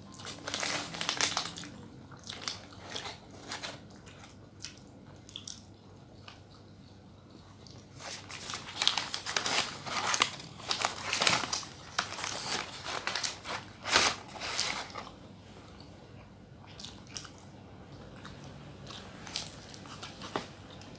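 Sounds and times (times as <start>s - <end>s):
crisp crunching of food: 0.0s - 6.6s, 7.6s - 15.8s, 16.6s - 20.9s.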